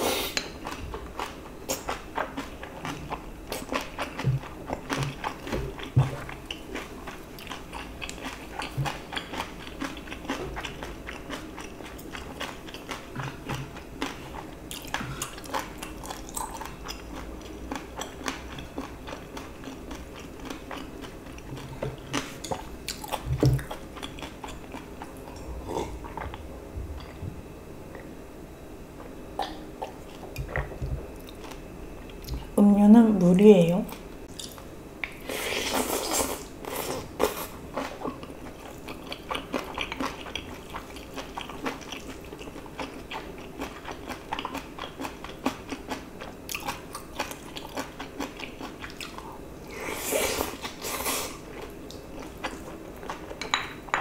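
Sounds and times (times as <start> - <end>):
person chewing: 0.1 - 27.2, 34.3 - 53.4.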